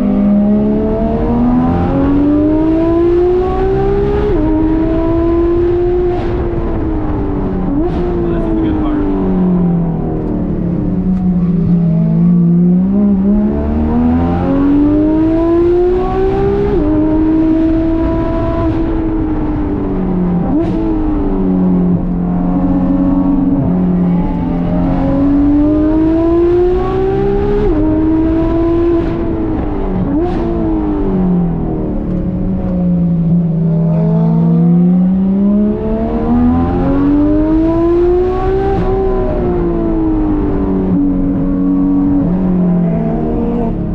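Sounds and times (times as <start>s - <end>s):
sports car engine revving: 0.0s - 43.9s.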